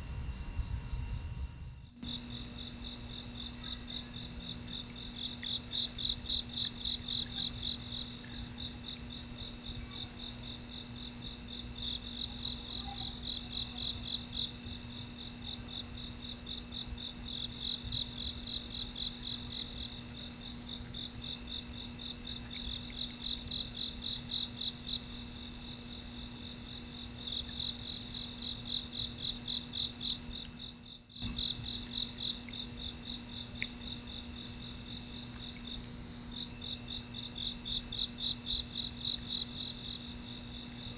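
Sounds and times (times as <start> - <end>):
high insect trill: 0.0 - 40.9
pulsing cricket chirps: 0.0 - 40.9.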